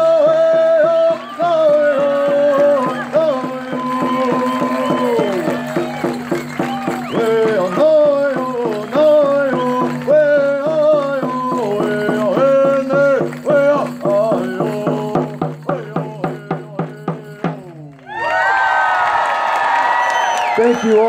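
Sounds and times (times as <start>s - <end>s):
steady drumbeat: 0.0s - 17.8s.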